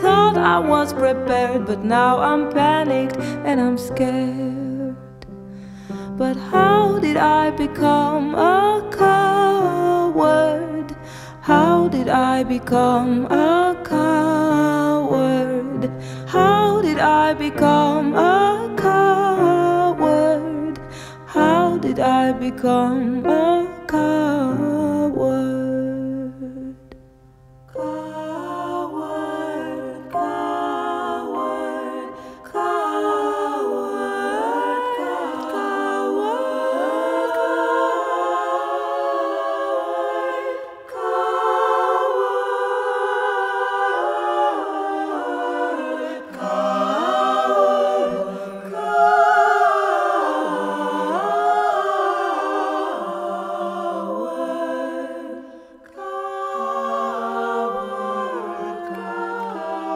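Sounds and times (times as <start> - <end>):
a cappella voices humming in harmony: 0.0 - 59.9.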